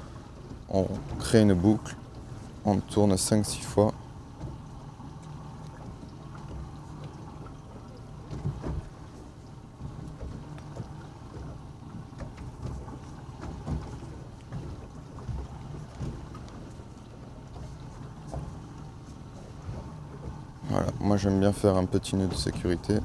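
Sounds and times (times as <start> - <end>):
boat rumble and hiss: 0.0 - 23.0.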